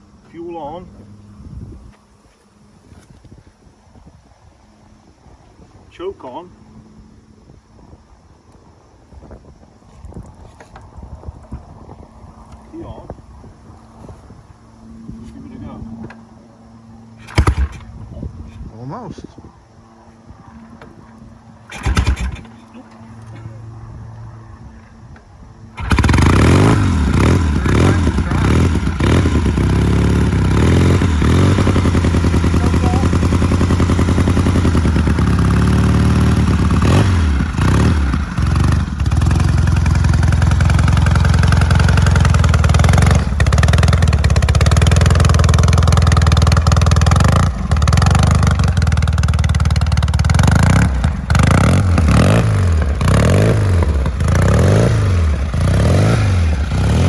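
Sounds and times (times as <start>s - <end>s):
motorcycle engine running: 9.3s - 57.0s.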